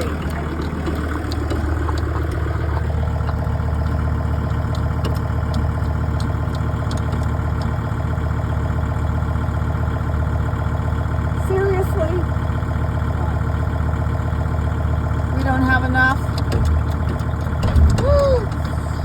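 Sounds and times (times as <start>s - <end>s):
heavy machinery engine idling: 0.0s - 19.0s.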